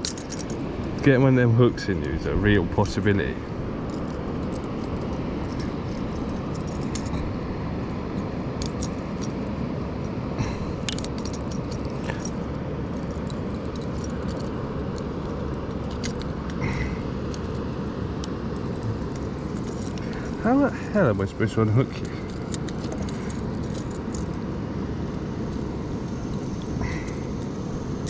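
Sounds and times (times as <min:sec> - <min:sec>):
lure hooks jangling: 0:00.0 - 0:01.3, 0:02.0 - 0:07.4, 0:08.1 - 0:09.6, 0:10.6 - 0:28.0.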